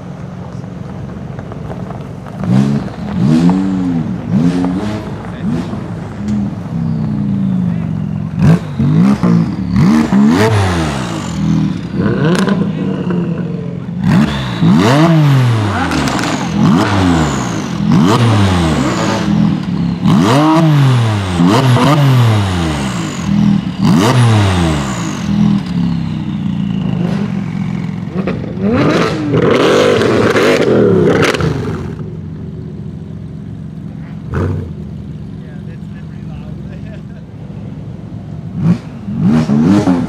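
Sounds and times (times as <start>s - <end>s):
car engine revving and idling: 0.0s - 40.0s.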